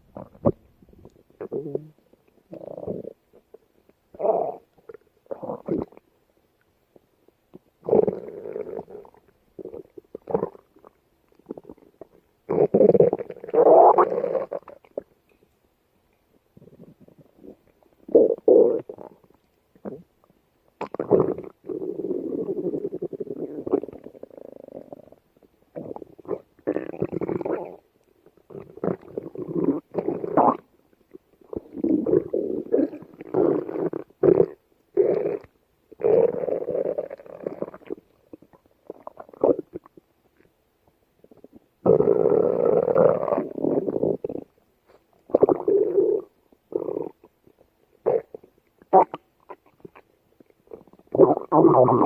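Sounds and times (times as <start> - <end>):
stomach growling: 0.1 - 6.0, 7.5 - 15.1, 16.5 - 20.2, 20.8 - 40.5, 41.2 - 52.0.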